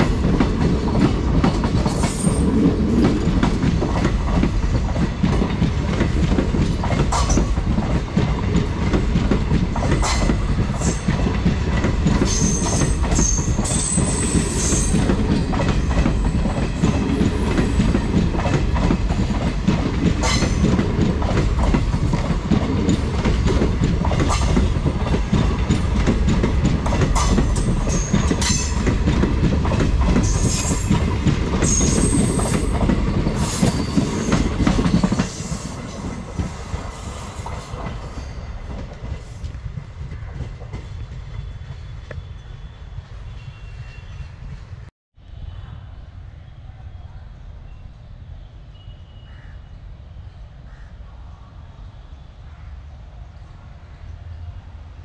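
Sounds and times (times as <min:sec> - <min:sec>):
freight train rumble: 0:00.0 - 0:48.9.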